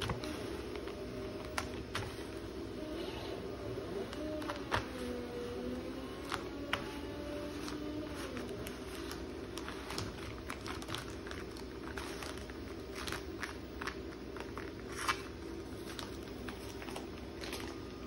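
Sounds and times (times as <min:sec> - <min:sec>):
paper crinkling and rustling: 0:00.0 - 0:18.0.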